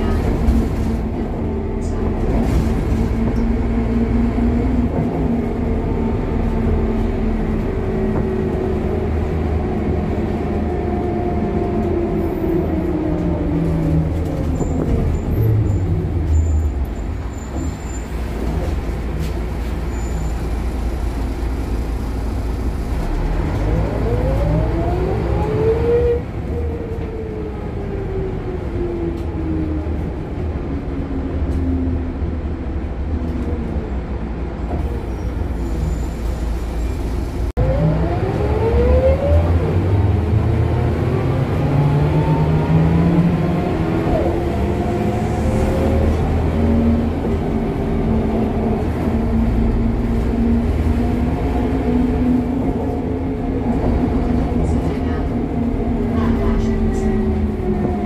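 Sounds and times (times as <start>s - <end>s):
bus engine and gearbox hum: 0.0s - 58.0s.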